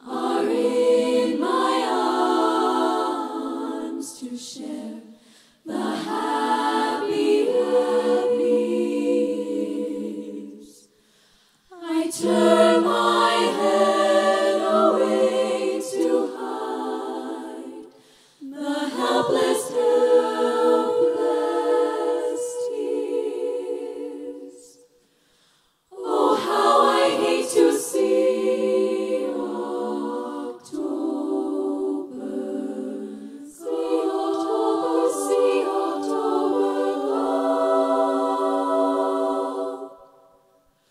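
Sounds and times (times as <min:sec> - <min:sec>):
women singing close harmony: 0:00.0 - 0:11.0, 0:11.7 - 0:24.9, 0:25.9 - 0:40.4.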